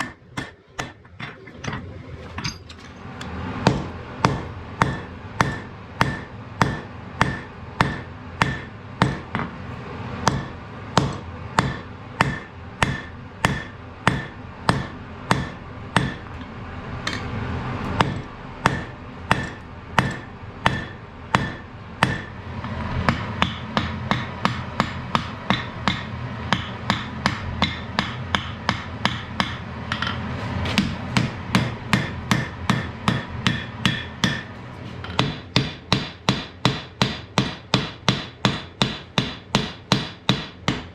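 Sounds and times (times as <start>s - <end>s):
hammer striking metal on anvil: 0.0s - 9.6s, 10.2s - 40.9s.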